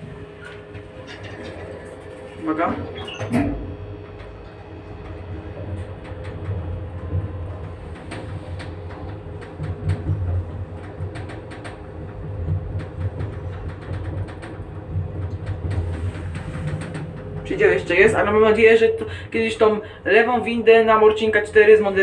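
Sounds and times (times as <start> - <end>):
lift car rattling and knocking: 0.0 - 22.0
lift car rumbling: 0.0 - 22.0.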